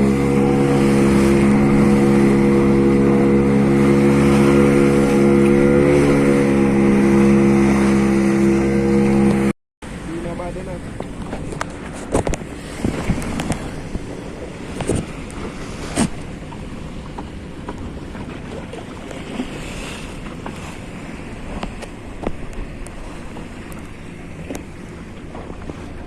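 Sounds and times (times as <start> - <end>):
wind buffeting microphone: 0.0 - 9.5, 10.7 - 26.0
waves washing around boat: 0.0 - 26.0.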